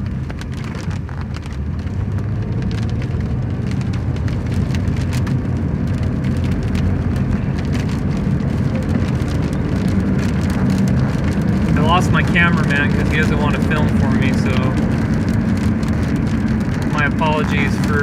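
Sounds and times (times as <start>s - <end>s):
raindrops ticking on car: 0.0s - 18.0s
road and engine rumble: 0.0s - 18.0s.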